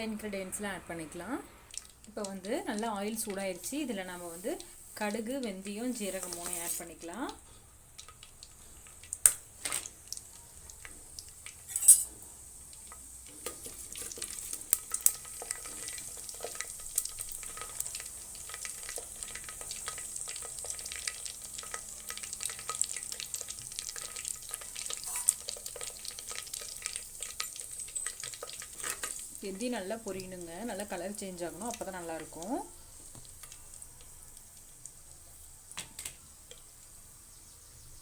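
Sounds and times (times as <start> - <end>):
seeds sizzling in hot oil: 0.0 - 38.0.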